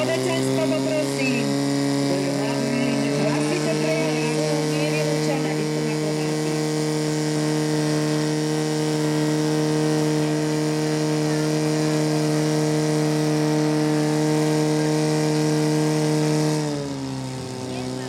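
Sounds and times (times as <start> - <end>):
pump engine running: 0.0 - 18.0.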